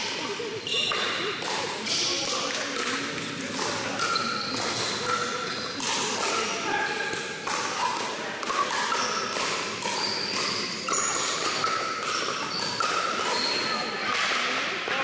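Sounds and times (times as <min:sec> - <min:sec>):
sneakers squeaking on floor: 0:00.2 - 0:02.9, 0:03.6 - 0:07.9, 0:08.5 - 0:14.1.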